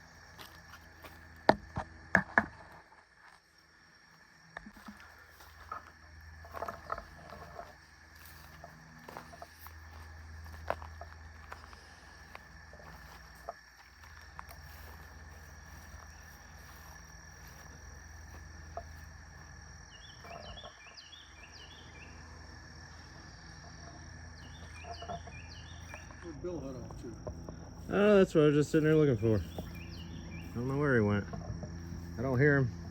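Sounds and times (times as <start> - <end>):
insects droning: 0.0 - 32.9.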